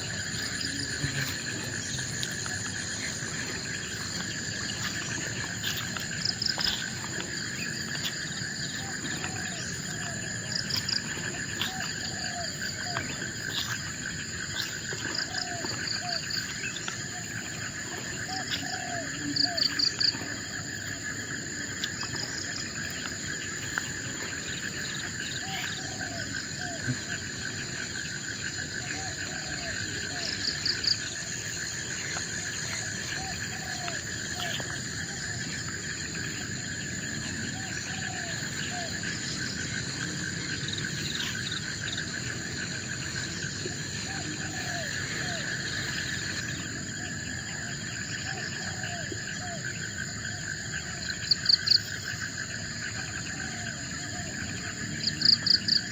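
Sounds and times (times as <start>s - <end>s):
insect chirping call: 0.0s - 55.9s
insects buzzing high-pitched: 0.0s - 55.9s
insects pulsing trill: 0.0s - 55.9s.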